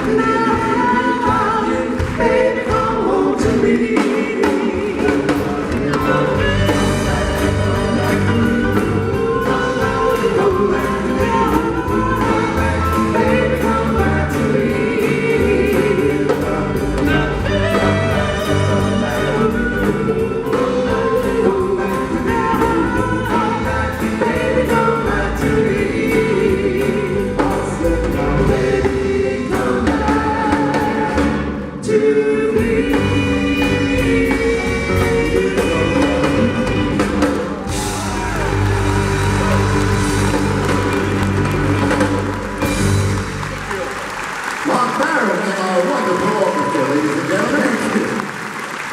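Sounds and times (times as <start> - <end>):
voices singing together: 0.0 - 43.0
live band playing: 0.0 - 48.9.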